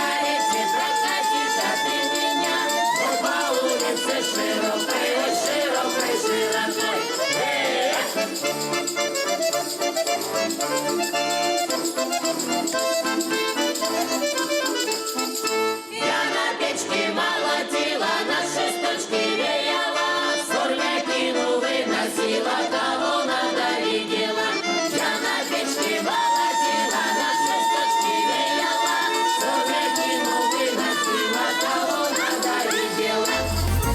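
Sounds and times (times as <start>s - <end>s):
voices singing: 0.0s - 15.2s, 15.8s - 33.9s
accordion playing folk song: 0.0s - 33.9s.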